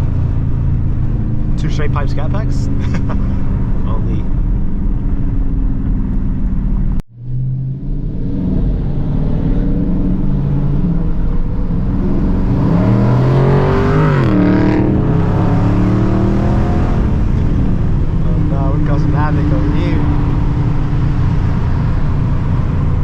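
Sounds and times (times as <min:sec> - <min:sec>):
car exhaust accelerating: 0:00.0 - 0:23.0.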